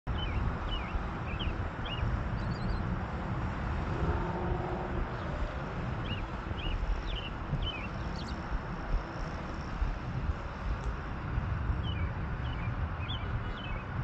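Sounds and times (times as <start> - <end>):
distant engine noise: 0.1 - 14.0
wind buffeting microphone: 0.1 - 14.0.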